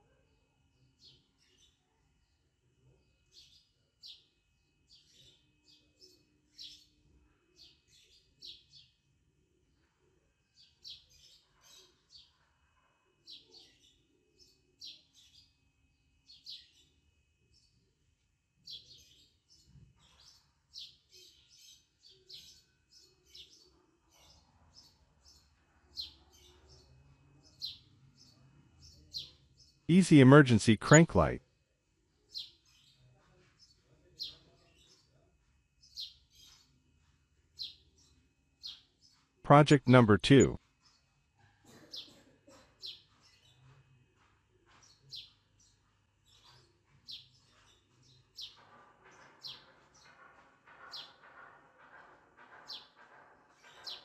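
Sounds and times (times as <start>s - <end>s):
faint small birds chirping: 0.0s - 29.9s, 31.5s - 39.4s, 40.6s - 54.0s.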